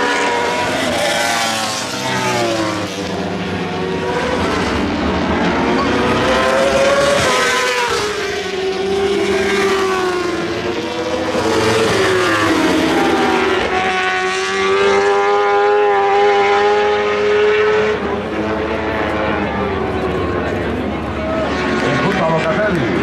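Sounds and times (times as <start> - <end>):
racing motorcycle engine revving: 0.0 - 23.0.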